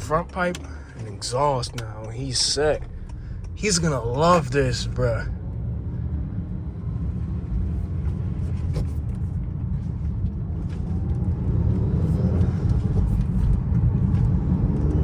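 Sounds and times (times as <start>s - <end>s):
car engine rumbling: 0.0s - 15.0s
road noise: 0.0s - 15.0s.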